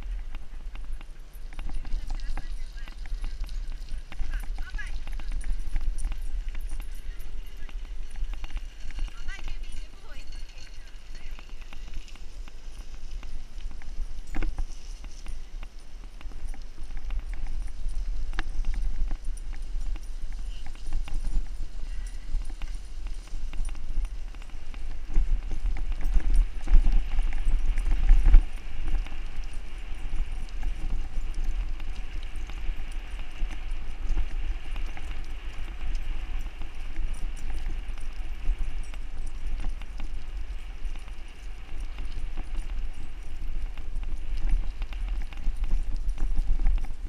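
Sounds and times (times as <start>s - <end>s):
bike tyres rolling and rattling: 0.0s - 47.0s
dog footfalls on dirt trail: 0.0s - 47.0s
wind buffeting microphone: 0.0s - 47.0s.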